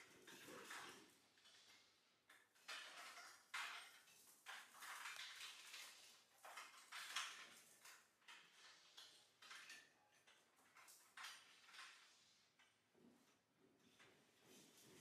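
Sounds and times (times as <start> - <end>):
cable rustling and scraping: 0.0 - 15.0.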